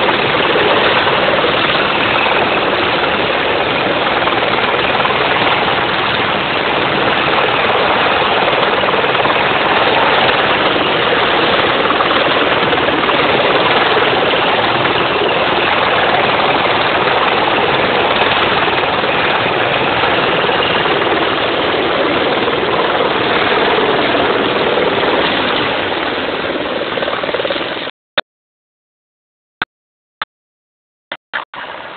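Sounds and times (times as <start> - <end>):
helicopter rotor and engine: 0.0 - 27.9.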